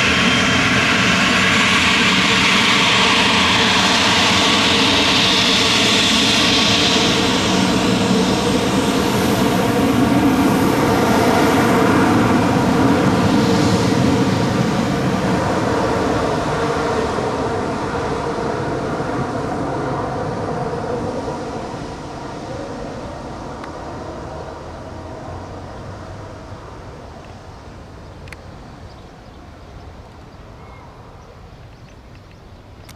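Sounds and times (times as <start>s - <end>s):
jet engine whine: 0.0s - 32.9s.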